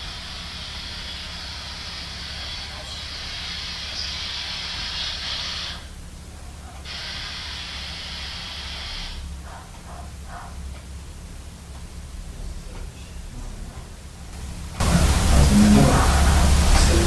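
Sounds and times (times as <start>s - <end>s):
low hum: 0.0s - 17.0s
radio static hiss: 0.0s - 17.0s.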